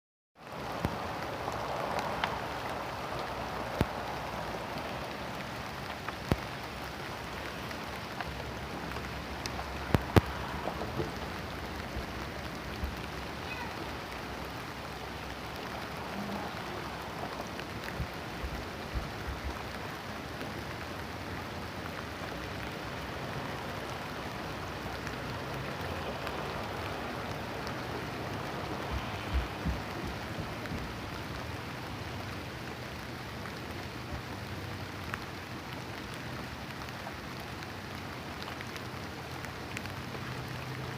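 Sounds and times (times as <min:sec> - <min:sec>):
rain drop clicks: 0:00.4 - 0:40.9
steady rain falling: 0:00.4 - 0:40.9.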